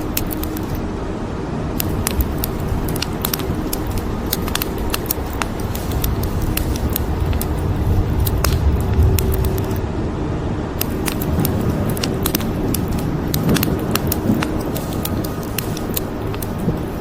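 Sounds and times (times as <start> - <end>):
fire pops and snaps: 0.0 - 0.8, 1.8 - 9.8, 10.8 - 17.0
wood fire crackling: 0.0 - 0.8, 1.7 - 9.8, 10.8 - 17.0
dense low rumble: 0.0 - 17.0.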